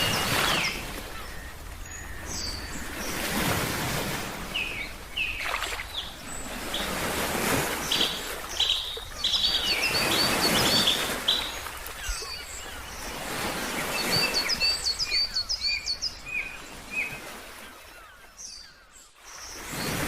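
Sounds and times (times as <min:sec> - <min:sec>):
ocean waves washing in: 0:00.0 - 0:18.0
birds chirping: 0:00.0 - 0:20.0.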